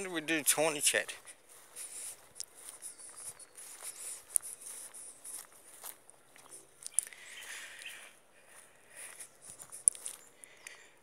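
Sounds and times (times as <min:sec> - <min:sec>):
footsteps scuffing and rustling: 0:00.0 - 0:10.4.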